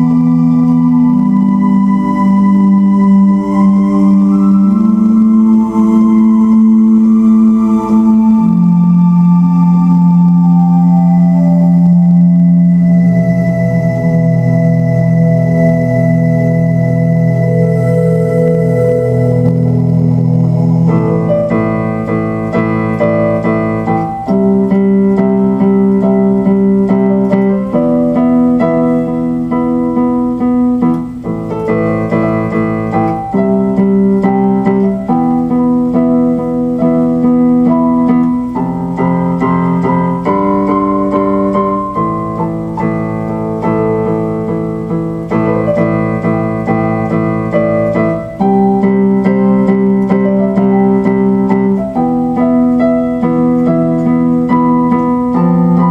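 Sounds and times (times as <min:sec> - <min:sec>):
held keyboard chords: 0:00.0 - 0:55.9.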